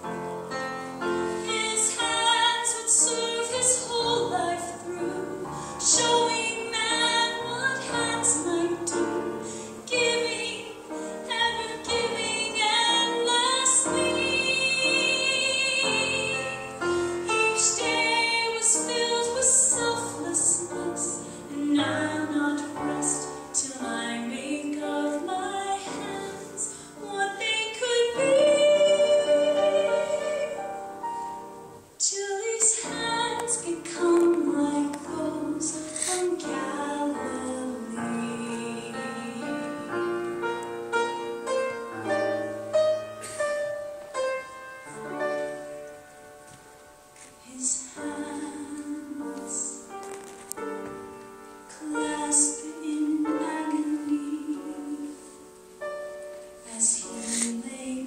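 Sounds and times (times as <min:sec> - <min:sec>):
woman singing with accompaniment: 0:01.1 - 0:46.0, 0:47.2 - 0:58.0.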